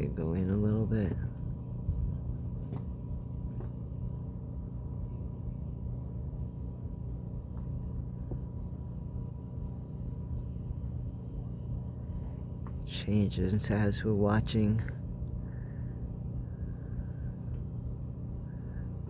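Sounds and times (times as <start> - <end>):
boat engine droning: 0.0 - 19.0
faint steady whine: 0.0 - 19.0.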